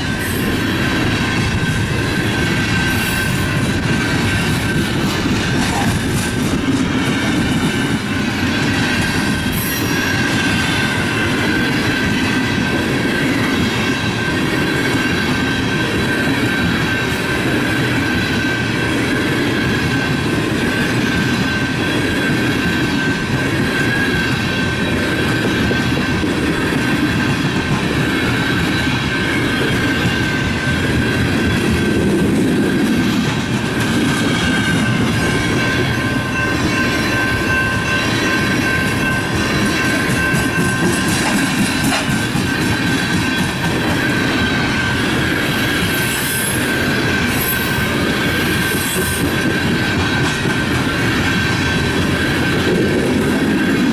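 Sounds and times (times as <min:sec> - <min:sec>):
freight train wheels clattering on rails: 0:00.0 - 0:53.9
high wheel squeal: 0:00.0 - 0:53.9.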